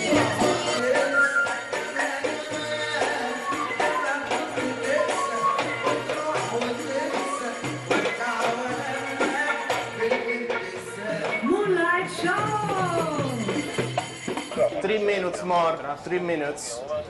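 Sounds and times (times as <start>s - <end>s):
keyboard melody: 0.0s - 15.3s
goblet drum beat: 0.0s - 15.7s
belly-dance band music: 0.0s - 15.8s.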